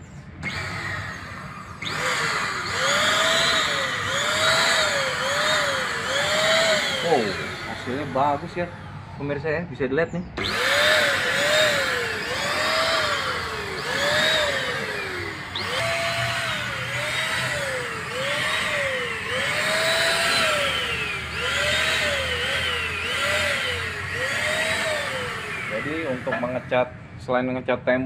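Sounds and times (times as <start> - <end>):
paint spray gun motor whine: 0.1 - 9.4, 10.4 - 26.9.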